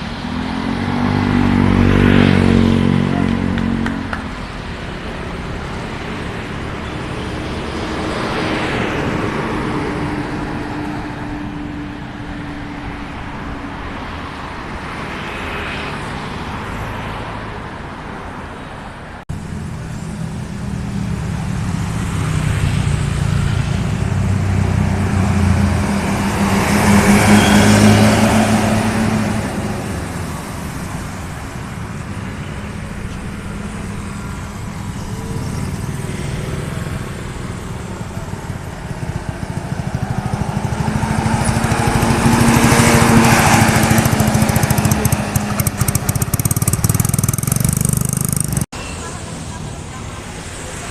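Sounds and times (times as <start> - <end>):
heavy vehicle passing close: 0.0 - 13.6, 19.3 - 50.9
traffic passing: 0.0 - 50.9.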